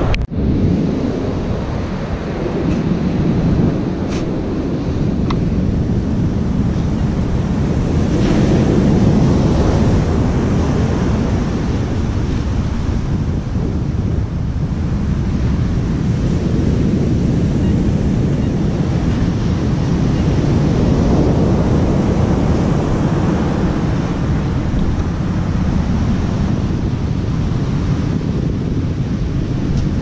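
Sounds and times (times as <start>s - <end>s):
big surf washing: 0.0s - 30.0s
wind buffeting microphone: 0.0s - 30.0s.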